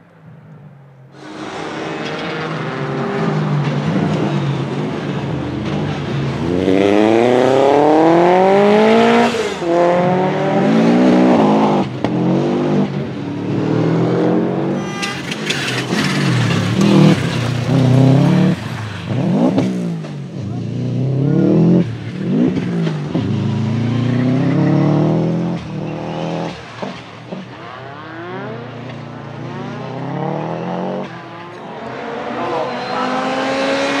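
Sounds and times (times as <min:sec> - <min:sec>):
rally car engine accelerating: 0:01.2 - 0:34.0.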